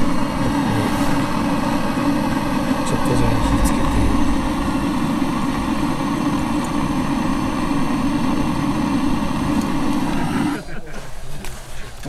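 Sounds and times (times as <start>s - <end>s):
butane torch burning: 0.0s - 12.0s.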